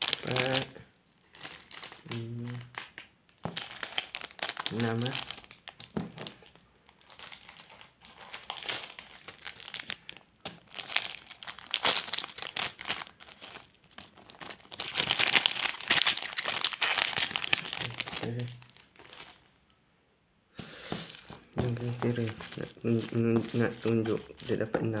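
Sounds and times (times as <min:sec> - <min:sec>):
plastic wrapper crinkling: 0:00.0 - 0:19.6, 0:20.9 - 0:25.0.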